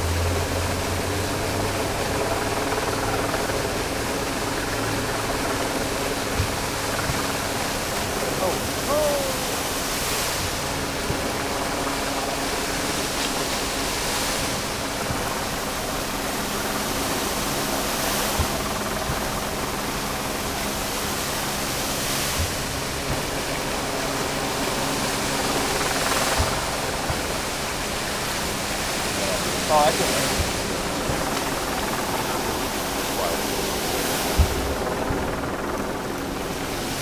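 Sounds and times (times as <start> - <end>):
fountain water splashing: 0.0 - 37.0.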